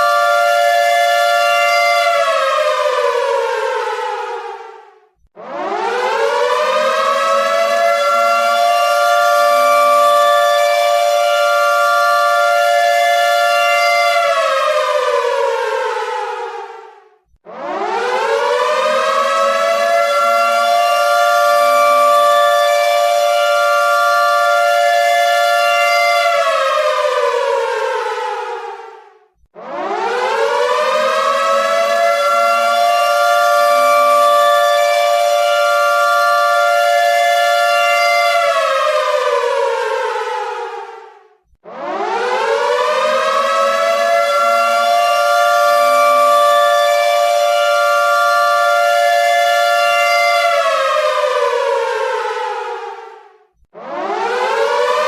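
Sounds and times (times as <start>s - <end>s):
air raid siren wailing: 0.0s - 55.0s.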